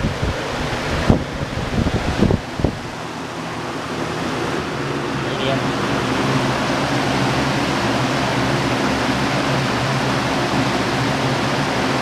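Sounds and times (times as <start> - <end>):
box fan running: 0.0 - 12.0.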